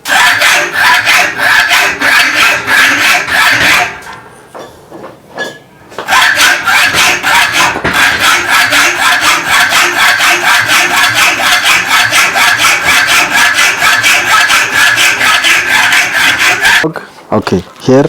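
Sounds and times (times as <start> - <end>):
hand saw or file rasping: 0.1 - 4.3, 6.0 - 16.9.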